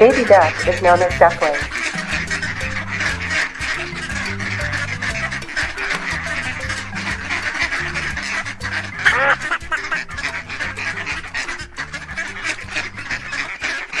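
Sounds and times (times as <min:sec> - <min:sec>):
background music with low notes: 0:00.0 - 0:14.0
ducks quacking: 0:00.0 - 0:14.0.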